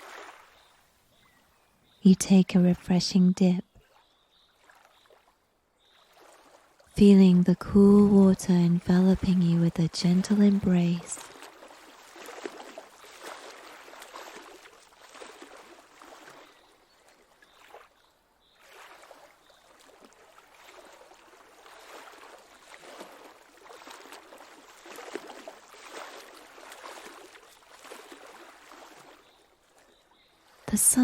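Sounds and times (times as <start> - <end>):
lake water lapping: 0.0 - 31.0.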